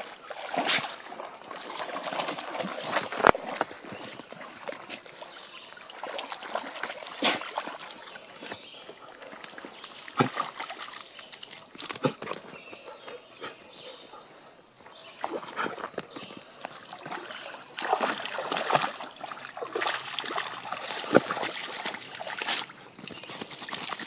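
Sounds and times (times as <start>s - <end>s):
water sloshing and trickling: 0.0s - 14.0s, 14.8s - 24.0s
dogs splashing in water: 0.0s - 14.1s, 14.9s - 24.0s.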